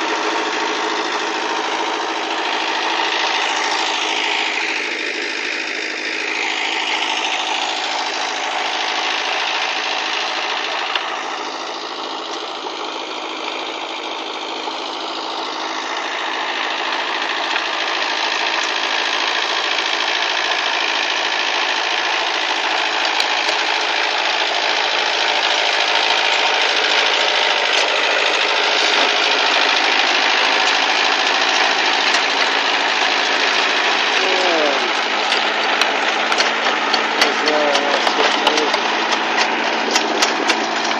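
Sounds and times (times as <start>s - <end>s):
rotary tiller working ground: 0.0s - 40.9s
tractor diesel engine running: 0.0s - 40.9s.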